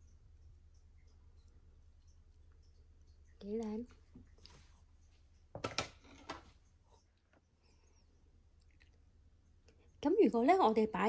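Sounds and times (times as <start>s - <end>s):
soft wet squishing: 0.0s - 10.2s.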